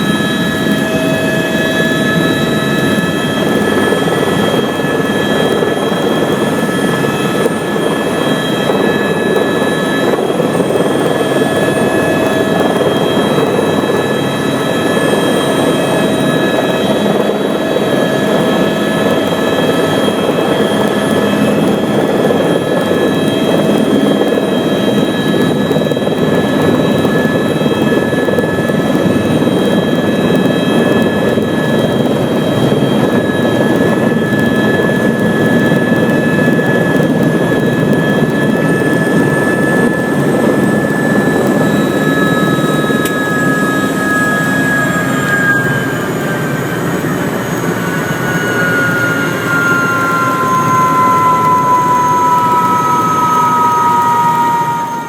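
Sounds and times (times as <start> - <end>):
helicopter rotor and engine rumble: 0.0 - 55.0
high turbine whine: 0.0 - 55.0.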